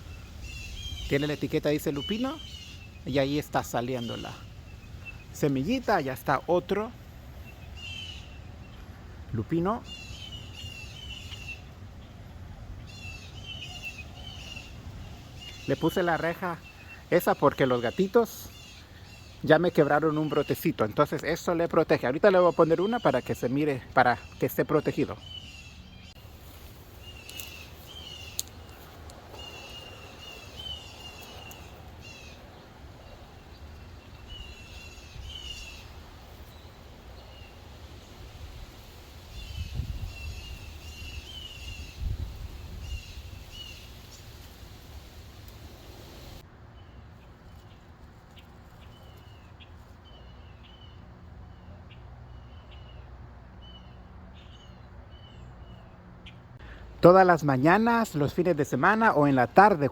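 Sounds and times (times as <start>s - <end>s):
small songbirds chirping: 0.0s - 59.9s.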